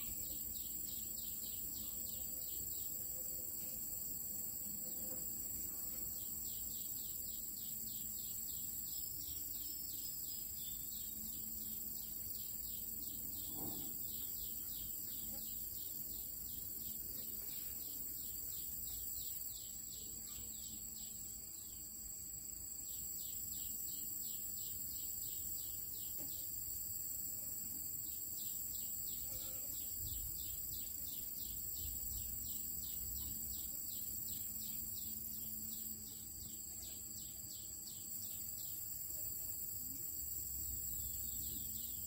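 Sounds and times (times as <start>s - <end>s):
high thin insect trill: 0.0s - 42.0s.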